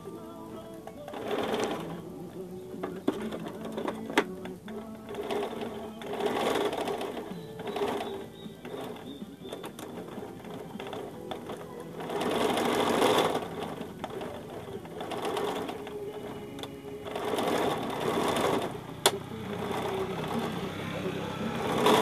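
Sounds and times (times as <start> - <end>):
sewing machine running: 0.0 - 22.0.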